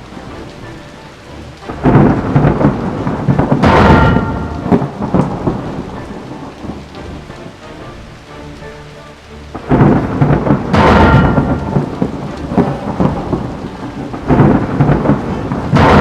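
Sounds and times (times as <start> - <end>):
thunder rumbling and crashing: 0.0 - 8.0, 9.5 - 16.0
steady rain: 0.0 - 16.0.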